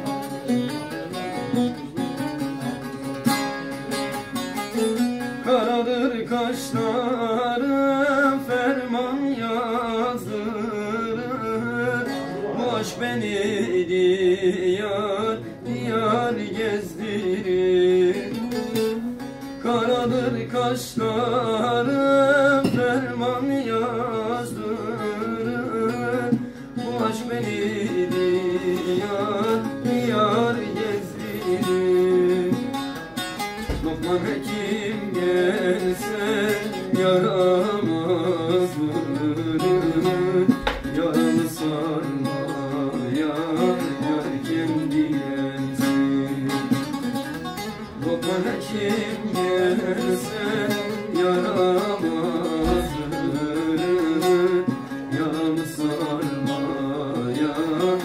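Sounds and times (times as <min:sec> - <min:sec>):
man singing: 0:00.0 - 0:58.0
plucked strings: 0:00.0 - 0:58.0.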